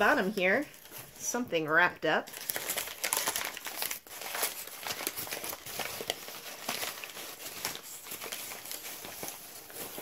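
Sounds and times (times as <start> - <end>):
wrapping rustling and crinkling: 0.0 - 10.0.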